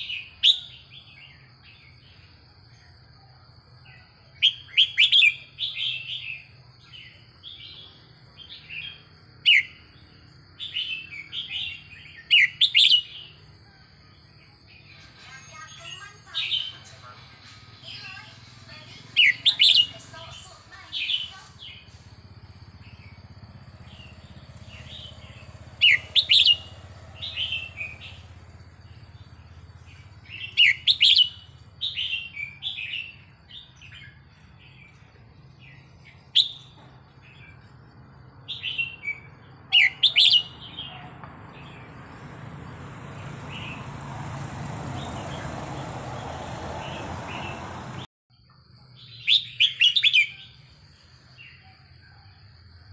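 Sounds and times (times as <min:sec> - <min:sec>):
bird chirping song: 0:00.0 - 0:52.9.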